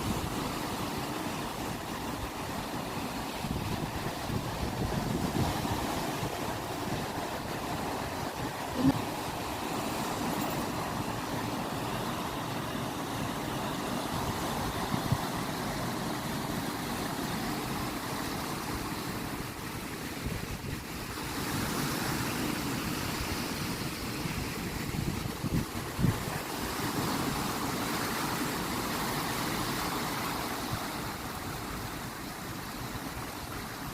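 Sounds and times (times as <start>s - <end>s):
ocean waves washing ashore: 0.0s - 33.9s.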